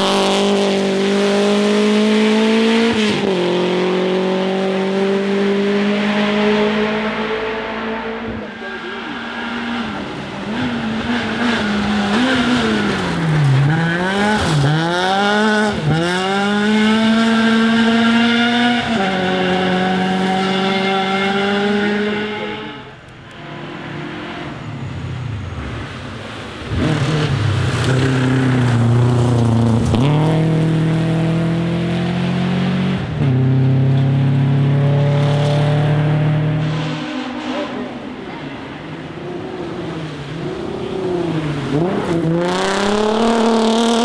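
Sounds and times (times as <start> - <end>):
rally car engine revving: 0.0 - 44.0
rally car passing at high revs: 0.0 - 44.0.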